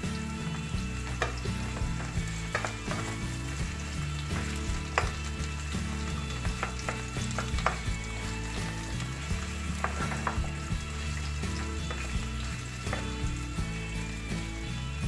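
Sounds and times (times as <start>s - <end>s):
vegetables sizzling in a wok: 0.0s - 15.0s
spatula scraping a pan: 0.2s - 13.6s.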